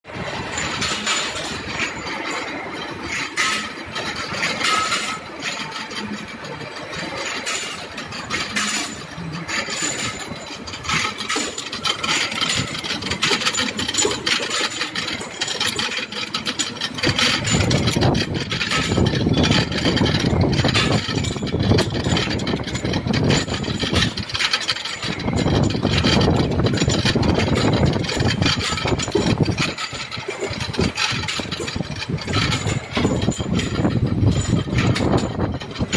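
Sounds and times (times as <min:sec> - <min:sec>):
grinding machine running: 0:00.1 - 0:35.9
machine clicks: 0:00.1 - 0:35.9.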